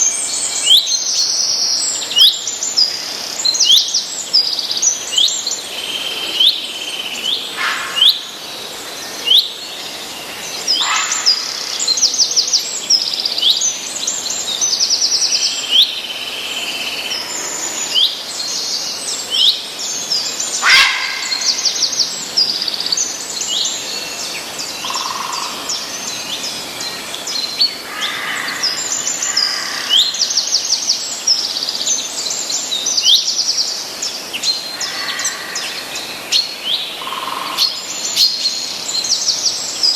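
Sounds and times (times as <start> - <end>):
faint background hiss: 0.0 - 39.9
small birds chirping and trilling: 0.0 - 39.9.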